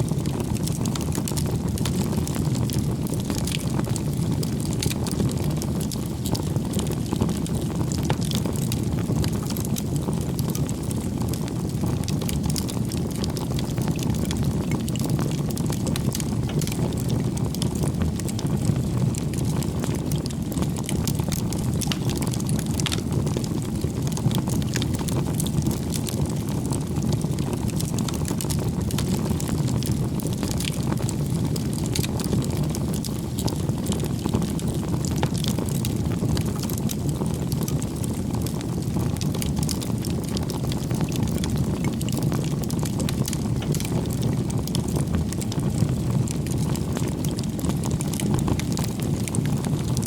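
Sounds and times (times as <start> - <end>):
burning wood crackling: 0.0 - 50.0
rumble of flames: 0.0 - 50.0.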